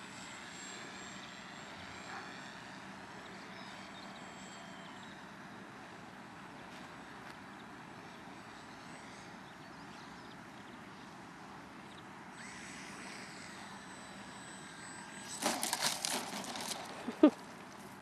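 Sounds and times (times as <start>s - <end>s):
model airplane engine whine: 0.0s - 18.0s.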